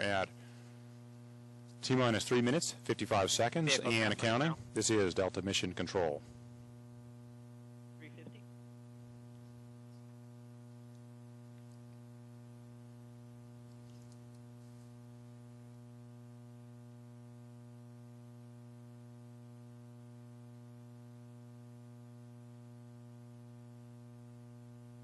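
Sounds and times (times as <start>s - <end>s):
faint electrical mains hum: 0.0s - 25.0s.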